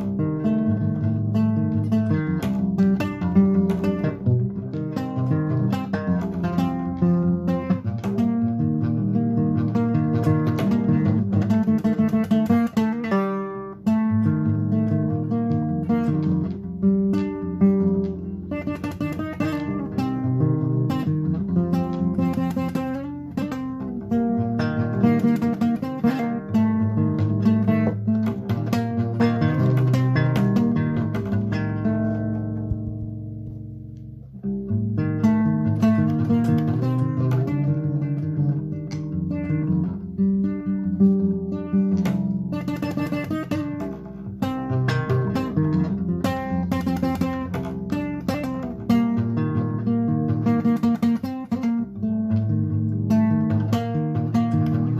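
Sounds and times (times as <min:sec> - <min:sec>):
acoustic guitar: 0:00.0 - 0:54.9.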